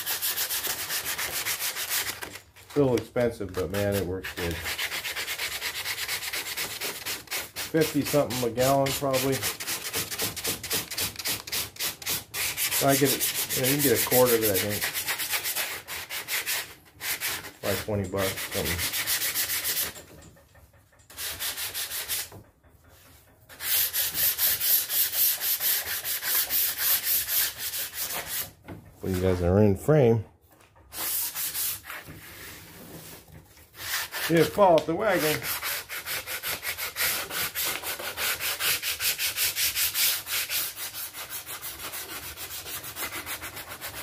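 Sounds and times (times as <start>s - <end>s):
sandpaper rubbing on wood: 0.0s - 2.2s, 3.6s - 20.0s, 21.1s - 22.4s, 23.5s - 29.6s, 30.9s - 32.6s, 33.7s - 44.0s.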